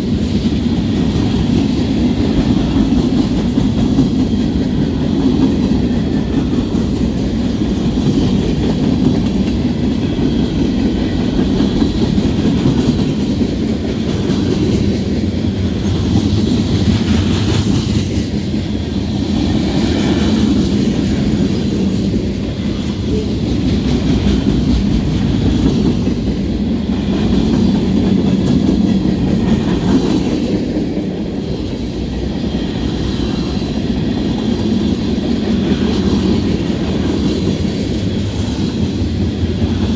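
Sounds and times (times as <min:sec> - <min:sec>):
train wheels clacking on rails: 0:00.0 - 0:39.9.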